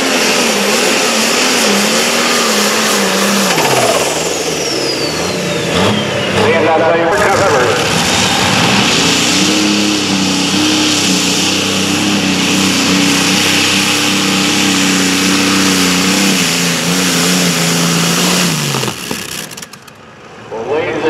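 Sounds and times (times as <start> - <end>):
engine running at high revs: 0.0 - 20.5
rough rushing noise: 0.0 - 20.9.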